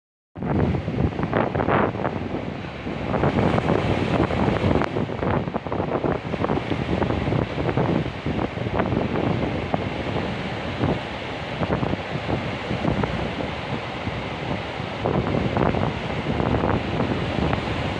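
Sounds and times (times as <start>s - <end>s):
sea waves breaking on shore: 0.4s - 17.9s
wind buffeting microphone: 0.4s - 17.9s.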